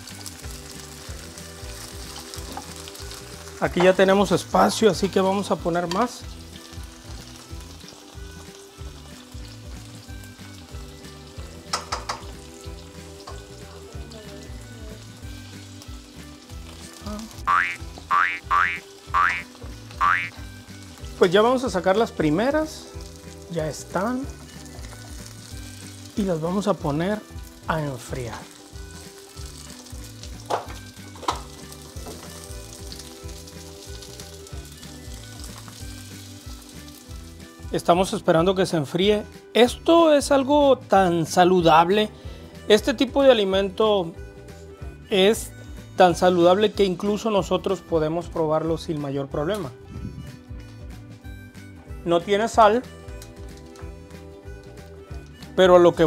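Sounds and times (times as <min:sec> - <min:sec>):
meatballs sizzling in a frying pan: 0:00.0 - 0:56.0.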